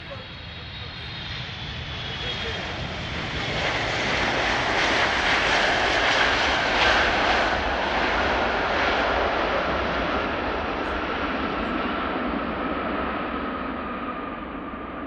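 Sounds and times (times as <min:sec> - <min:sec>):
jet airliner engines roaring: 0:00.0 - 0:15.0.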